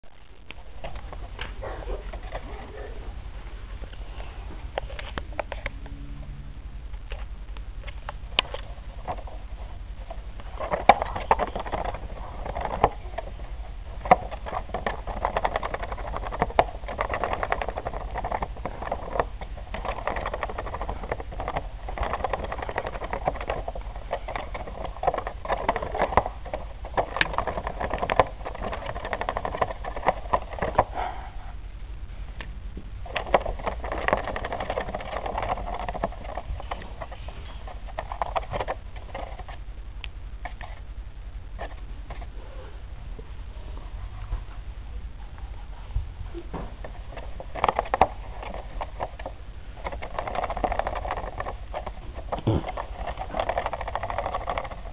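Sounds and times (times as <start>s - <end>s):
hamster gnawing cardboard: 0.2s - 3.0s, 7.0s - 31.2s, 32.9s - 39.8s, 40.4s - 40.9s, 41.5s - 42.4s, 45.4s - 54.9s.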